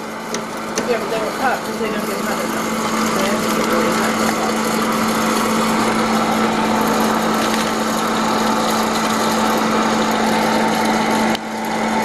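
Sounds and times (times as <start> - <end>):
popcorn machine humming: 0.0 - 12.0.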